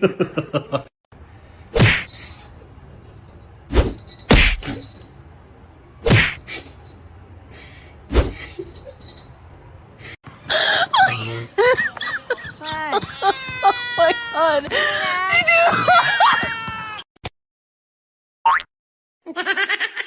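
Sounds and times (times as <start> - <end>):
faint steady background noise: 0.3 - 17.0.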